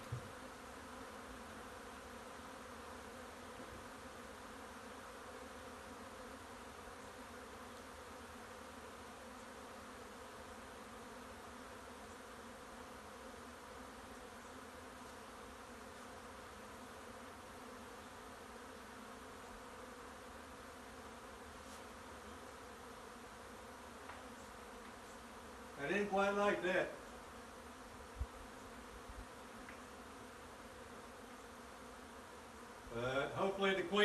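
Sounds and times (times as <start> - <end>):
bee swarm buzzing: 0.0 - 34.0.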